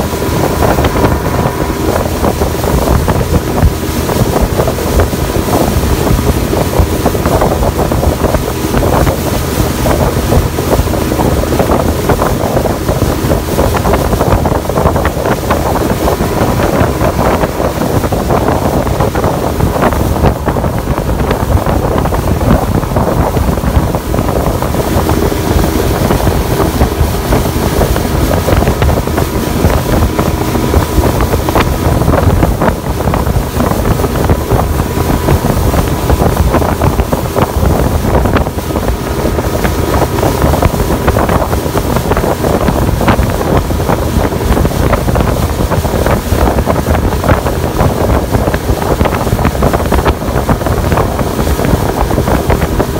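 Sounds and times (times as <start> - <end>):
boat engine drone: 0.0 - 52.9
water rushing past hull: 0.0 - 52.9
wind buffeting microphone: 0.0 - 52.9.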